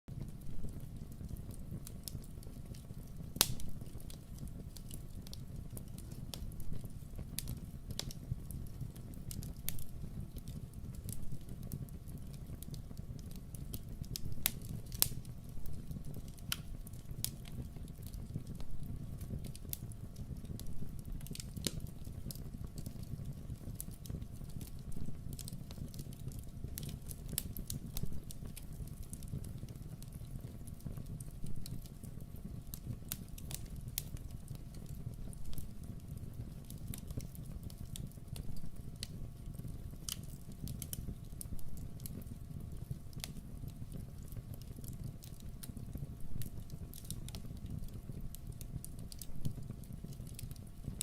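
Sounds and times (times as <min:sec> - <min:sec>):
fireplace fire crackling: 0:00.1 - 0:51.0.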